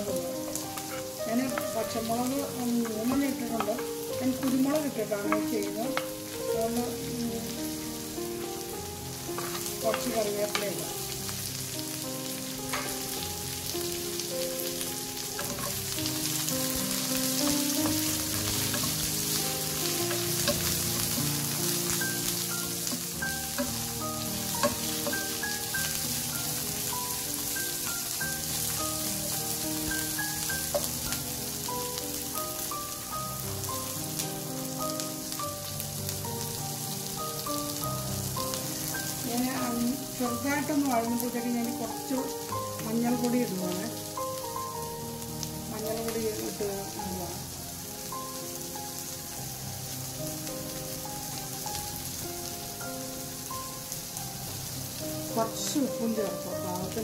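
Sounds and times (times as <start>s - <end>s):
vegetables sizzling in hot oil: 0.0s - 57.0s.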